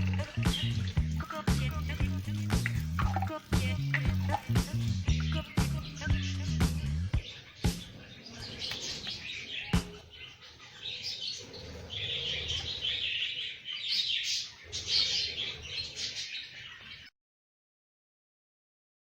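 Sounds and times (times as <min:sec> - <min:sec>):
cage birds chirping and twittering: 0:00.0 - 0:17.1.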